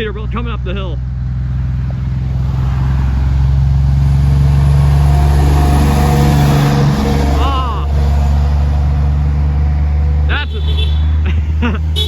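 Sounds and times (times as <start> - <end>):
truck diesel engine pulling uphill: 0.0 - 12.0.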